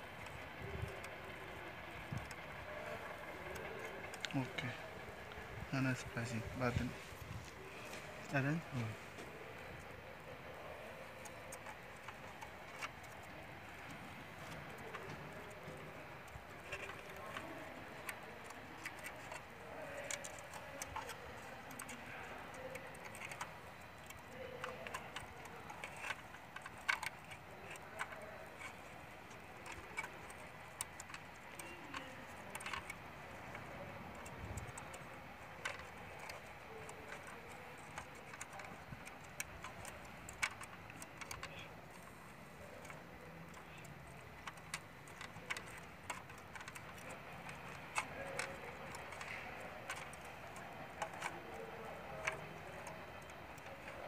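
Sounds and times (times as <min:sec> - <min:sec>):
small tools clicking and tapping: 0:00.0 - 0:54.0.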